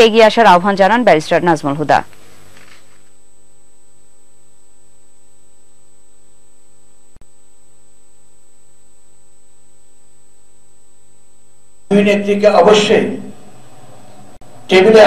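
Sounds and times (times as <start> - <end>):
electrical hum and hiss: 0.0 - 15.0
pulsing low buzz: 0.0 - 15.0
thin high whine: 0.0 - 15.0.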